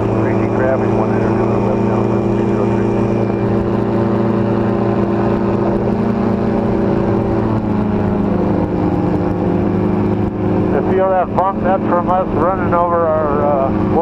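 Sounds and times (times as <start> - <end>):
engine and propeller running: 0.0 - 14.0.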